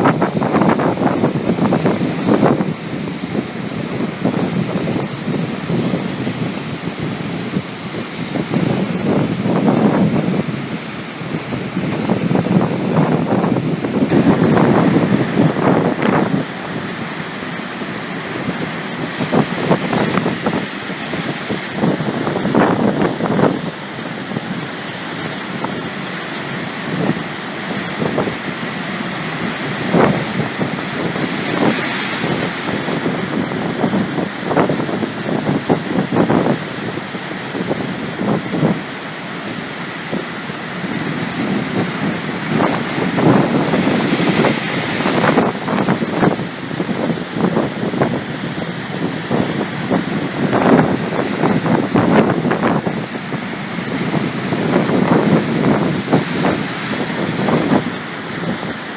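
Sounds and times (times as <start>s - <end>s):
ocean surf breaking: 0.0s - 58.9s
wind gusting on microphone: 0.0s - 58.9s.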